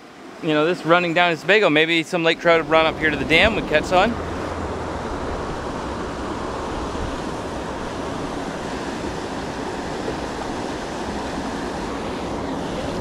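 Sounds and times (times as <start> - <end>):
river water rushing over dam: 0.4 - 13.0.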